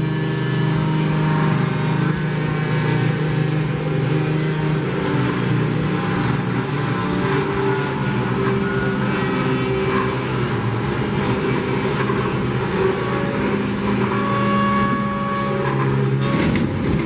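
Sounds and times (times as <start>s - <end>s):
rumble of wheels on rail: 0.0s - 17.0s.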